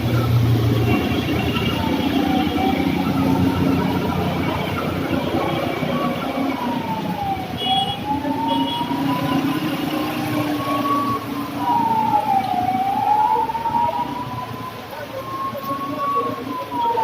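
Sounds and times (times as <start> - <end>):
emergency siren wailing: 0.0 - 17.0
road traffic din: 0.0 - 17.0.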